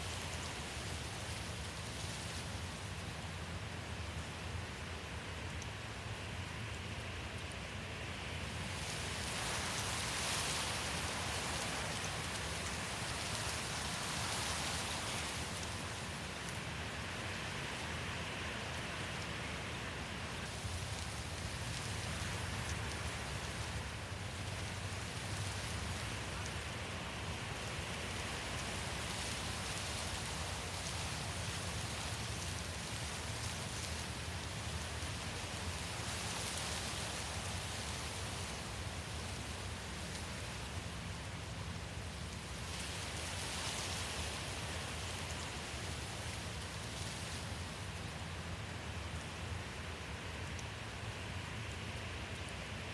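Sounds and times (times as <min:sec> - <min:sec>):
steady wind: 0:00.0 - 0:52.9.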